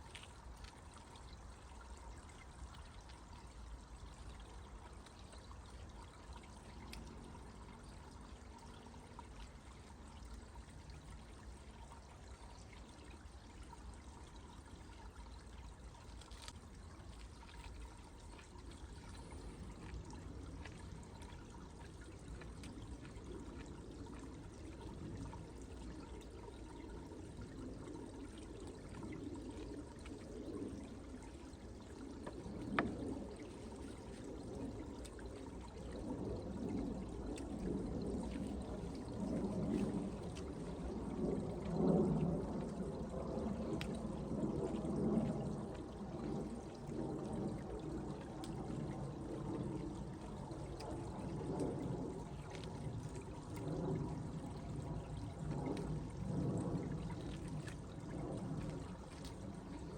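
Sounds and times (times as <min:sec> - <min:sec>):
water trickling and pouring: 0:00.0 - 0:59.9.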